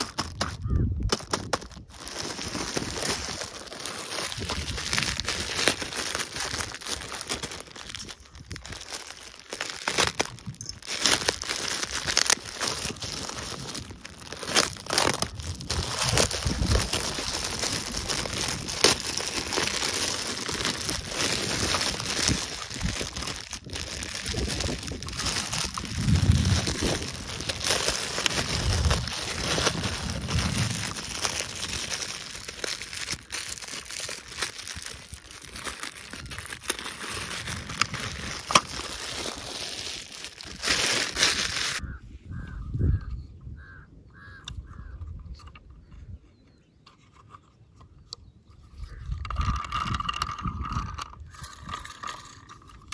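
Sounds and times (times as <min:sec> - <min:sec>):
plastic bag crinkling: 0:00.0 - 0:41.8, 0:49.3 - 0:52.9.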